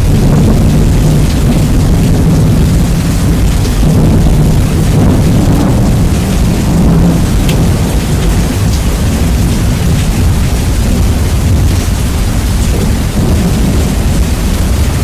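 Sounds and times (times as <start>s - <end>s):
rain hiss: 0.0s - 15.0s
raindrop ticks: 0.0s - 15.0s
thunder rumble: 0.0s - 15.0s.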